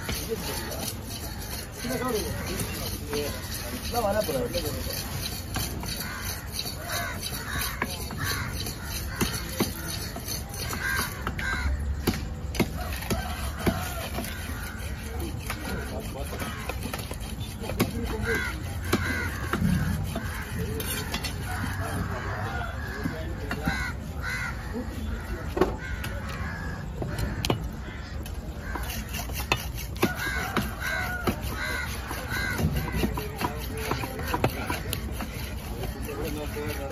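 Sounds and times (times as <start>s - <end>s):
harsh cawing calls: 0.0s - 36.9s.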